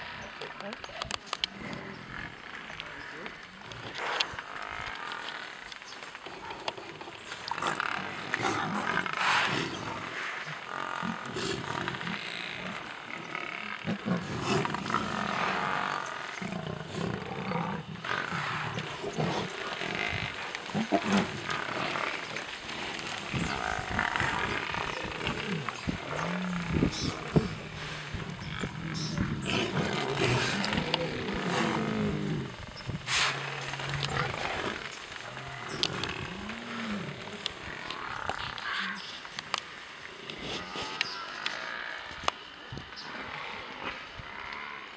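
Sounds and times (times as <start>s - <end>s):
lions growling and snarling: 0.1s - 42.2s.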